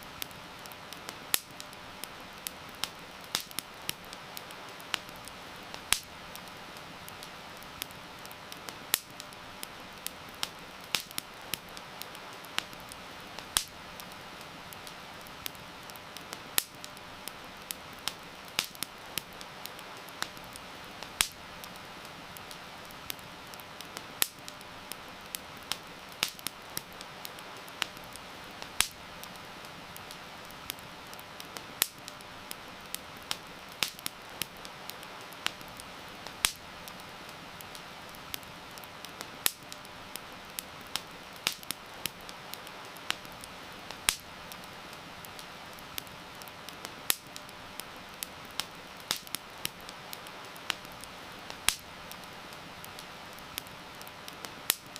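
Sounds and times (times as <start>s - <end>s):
campfire crackling and popping: 0.0s - 54.9s
rain hissing: 0.0s - 54.9s.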